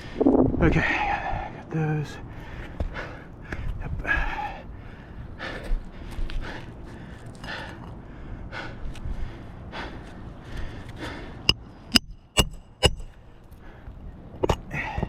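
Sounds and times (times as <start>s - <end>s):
heavy rhythmic breathing: 0.0s - 15.0s.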